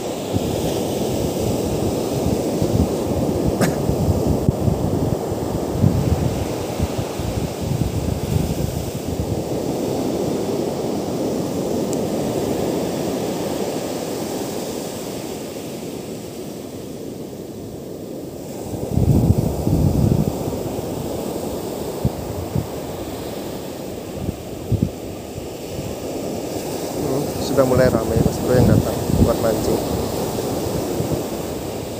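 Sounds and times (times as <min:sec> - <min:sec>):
wind buffeting microphone: 0:00.0 - 0:13.4, 0:18.4 - 0:31.9
surf washing up a beach: 0:00.0 - 0:31.9.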